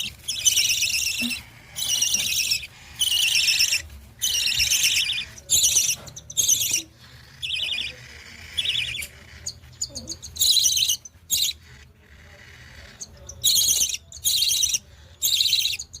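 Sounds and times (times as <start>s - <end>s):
budgerigar chicks chirping: 0.0s - 16.0s.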